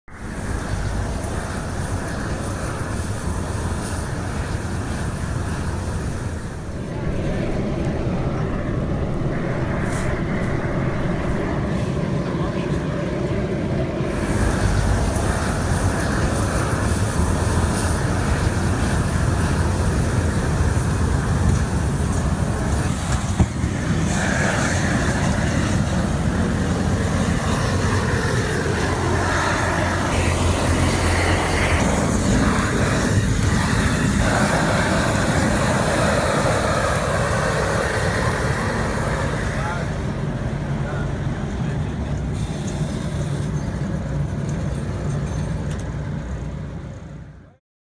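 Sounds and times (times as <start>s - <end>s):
flame weeding machine running: 0.2s - 41.0s.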